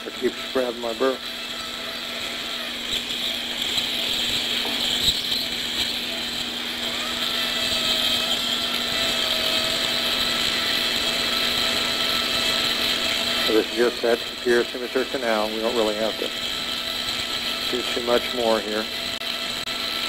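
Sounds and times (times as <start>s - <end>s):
surgical drill grinding bone: 0.0s - 20.0s
thin whine: 0.0s - 20.0s.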